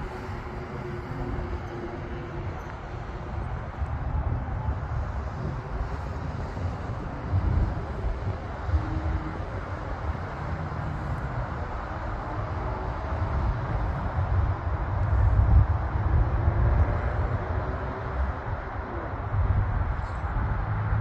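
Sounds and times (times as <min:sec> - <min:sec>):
distant jet engines running: 0:00.0 - 0:21.0.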